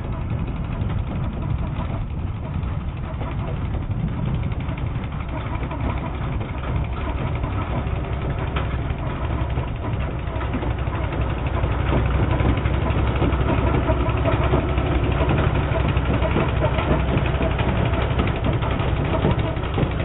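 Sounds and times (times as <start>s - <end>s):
small petrol engine running: 0.0s - 20.0s.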